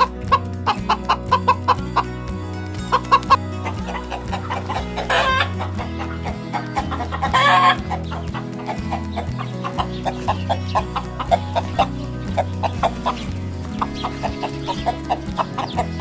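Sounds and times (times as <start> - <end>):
background music with bass line: 0.0 - 16.0
chickens clucking: 2.8 - 16.0
chicken squawking: 3.0 - 15.9.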